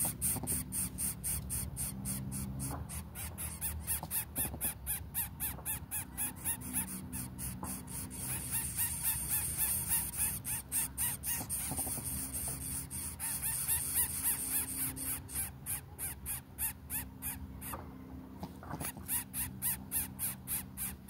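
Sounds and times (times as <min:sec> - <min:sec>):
chicks raspy begging calls: 0:00.0 - 0:21.0.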